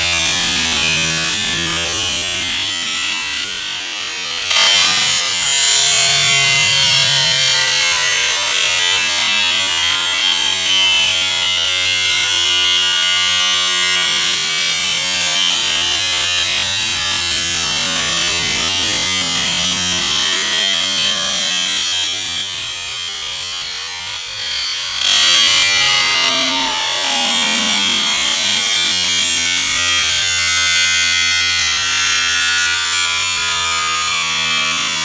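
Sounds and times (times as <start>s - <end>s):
angle grinder cutting sheet metal: 0.0s - 35.0s.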